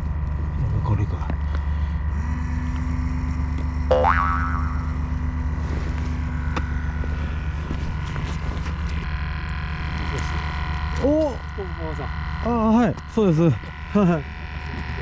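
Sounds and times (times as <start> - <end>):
air pump humming: 0.0 - 15.0
low mechanical drone: 0.0 - 15.0.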